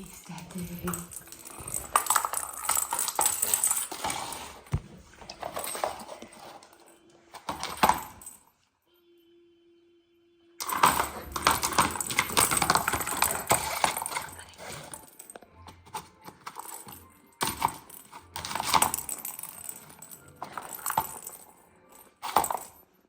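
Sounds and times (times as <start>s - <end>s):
cat toy balls rattling: 0.0s - 8.4s, 10.6s - 23.0s.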